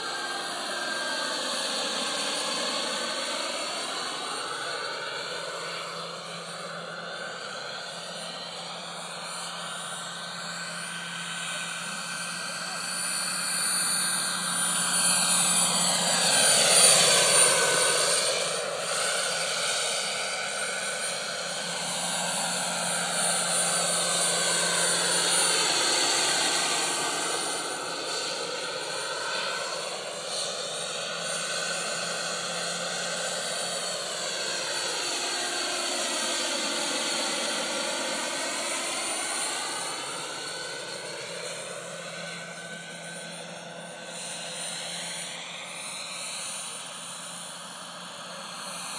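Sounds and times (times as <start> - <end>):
helicopter rotor: 0.0 - 48.9
model helicopter turbine whine: 0.0 - 48.9.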